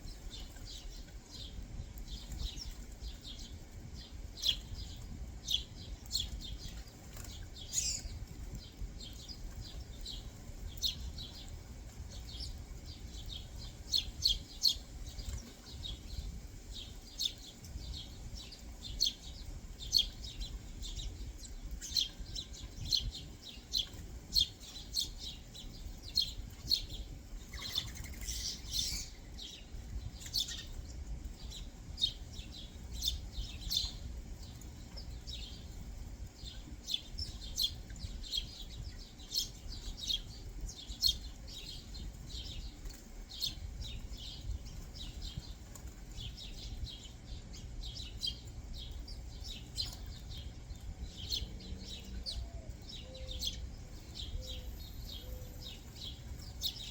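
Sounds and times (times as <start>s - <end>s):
low background rumble: 0.0s - 56.9s
songbirds chirping: 0.0s - 56.9s.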